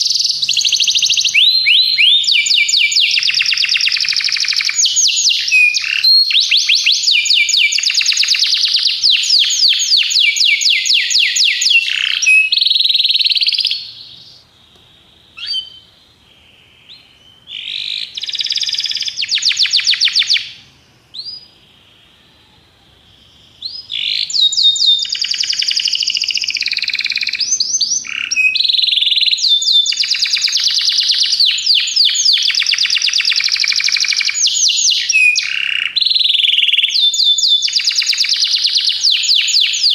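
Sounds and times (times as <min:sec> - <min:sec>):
canary singing trills: 0:00.0 - 0:14.5, 0:15.3 - 0:39.9.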